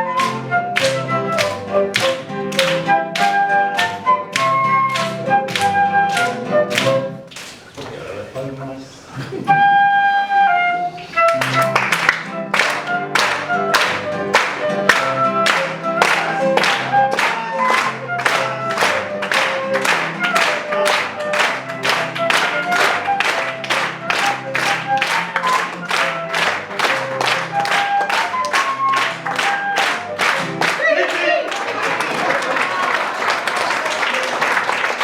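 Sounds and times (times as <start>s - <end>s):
flutes playing lively melody: 0.0s - 7.3s, 9.5s - 31.4s
audience clapping in time: 0.0s - 7.8s, 11.2s - 35.0s.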